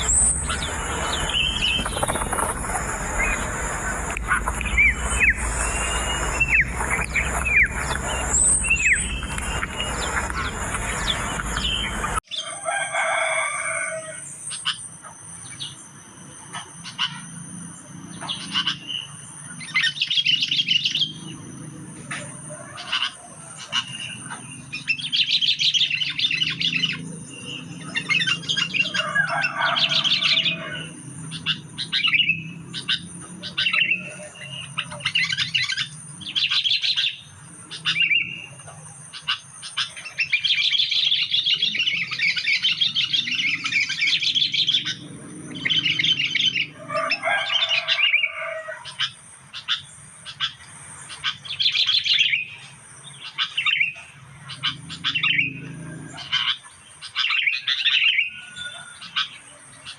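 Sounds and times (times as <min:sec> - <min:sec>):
birds chattering trilled calls: 0:00.0 - 0:59.9.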